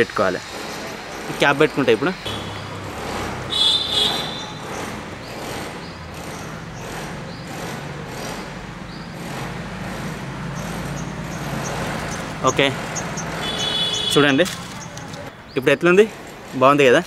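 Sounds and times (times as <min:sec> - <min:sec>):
low town hum: 0:00.0 - 0:16.6.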